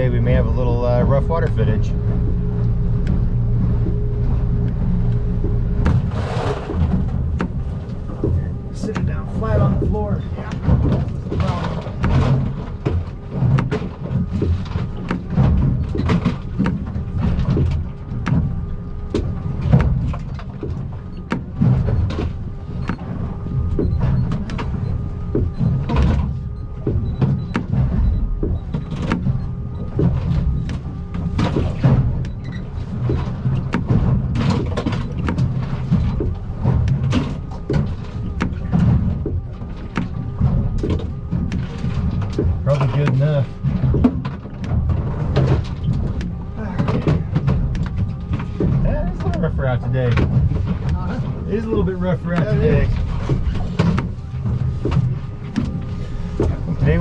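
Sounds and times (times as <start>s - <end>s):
boat engine and hull rumble: 0.0s - 57.0s
gear rattling: 0.0s - 57.0s
hull slamming into waves: 0.0s - 57.0s.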